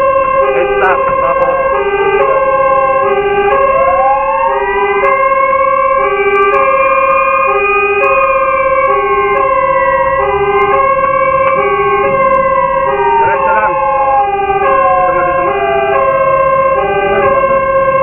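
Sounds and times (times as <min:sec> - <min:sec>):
two-tone hi-lo siren: 0:00.0 - 0:18.0
wail siren: 0:00.0 - 0:18.0.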